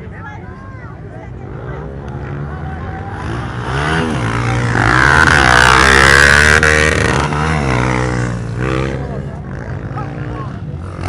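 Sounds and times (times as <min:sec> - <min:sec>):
dirt bike engine revving: 0:01.4 - 0:11.0.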